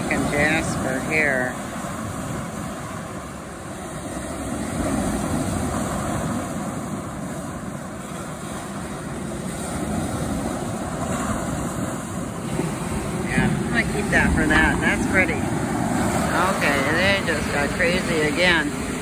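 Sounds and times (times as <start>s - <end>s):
waves breaking on cobble beach: 0.0s - 19.0s.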